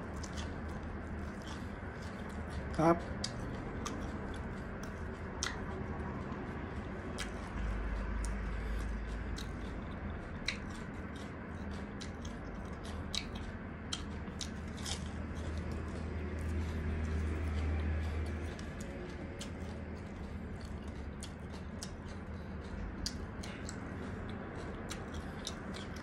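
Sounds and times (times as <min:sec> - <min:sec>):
chewing and crunching lettuce: 0:00.0 - 0:26.0
wet mouth clicks: 0:01.3 - 0:06.4, 0:07.2 - 0:26.0.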